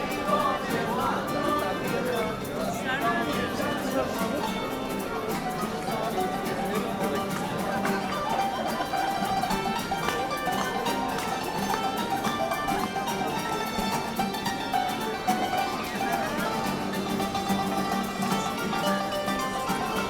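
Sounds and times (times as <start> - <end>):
street musicians playing instrumental: 0.0 - 20.0.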